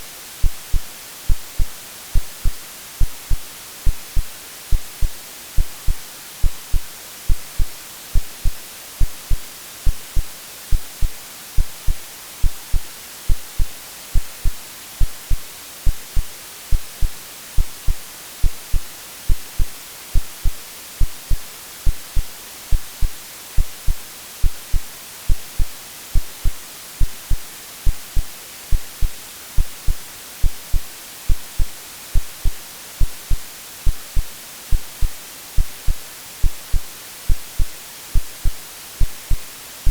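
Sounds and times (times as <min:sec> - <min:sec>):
white noise hiss: 0:00.0 - 0:39.9
heartbeat thumps: 0:00.4 - 0:39.9.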